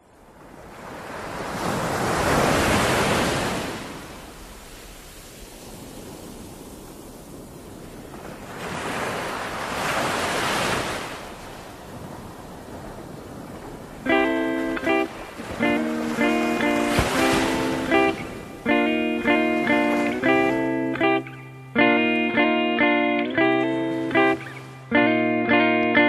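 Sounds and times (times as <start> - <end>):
waves breaking on a beach: 0.0 - 26.0.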